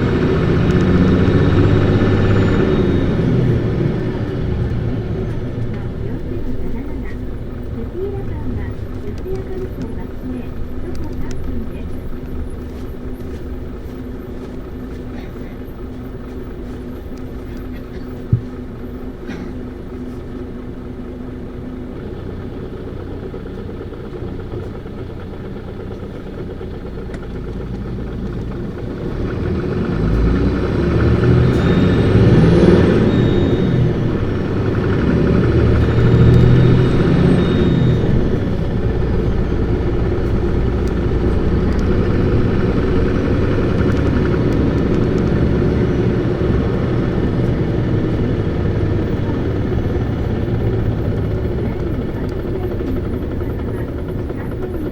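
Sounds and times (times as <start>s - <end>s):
bus engine running: 0.0s - 54.9s
high engine whine: 0.0s - 54.9s.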